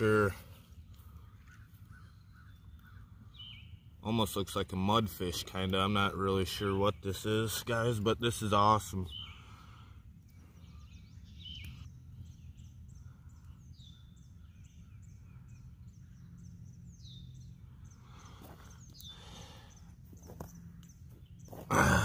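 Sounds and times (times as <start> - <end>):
faint low outdoor rumble: 0.0 - 22.0
songbird chirping: 0.0 - 22.0.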